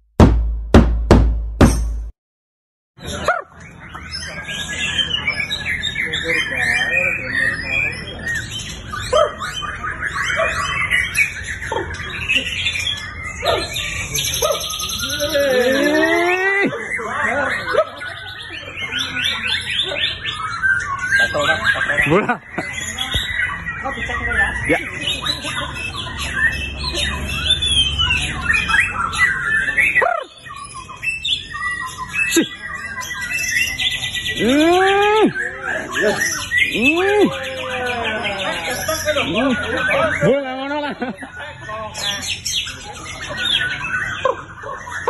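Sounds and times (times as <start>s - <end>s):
songbirds whistling and chirping: 3.0s - 45.0s.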